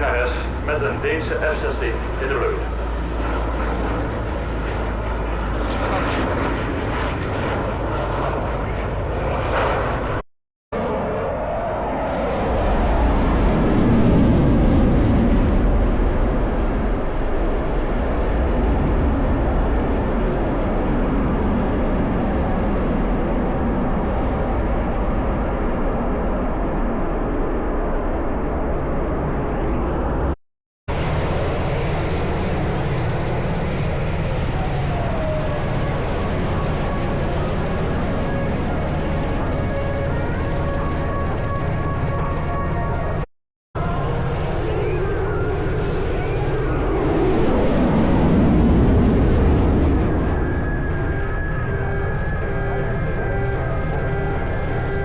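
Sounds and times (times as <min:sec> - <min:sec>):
jet engine roar: 0:00.0 - 0:10.2, 0:10.8 - 0:55.0.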